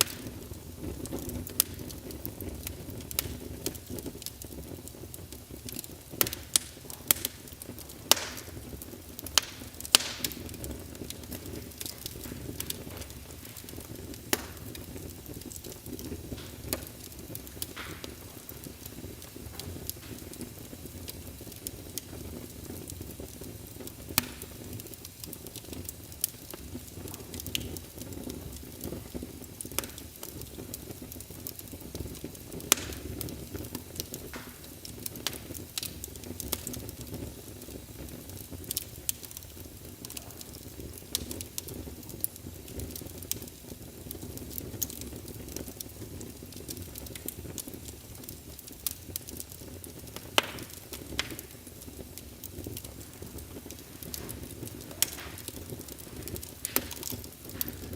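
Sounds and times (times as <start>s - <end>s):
fire crackling and popping: 0.0s - 57.9s
low rush of flame: 0.0s - 57.9s.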